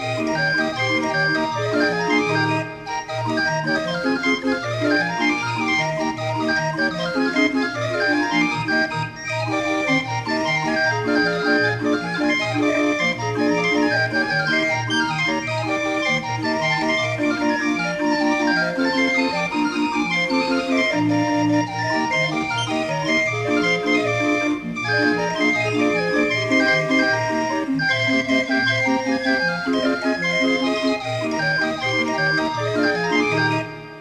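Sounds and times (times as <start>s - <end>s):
barrel organ playing a tune: 0.0s - 34.0s.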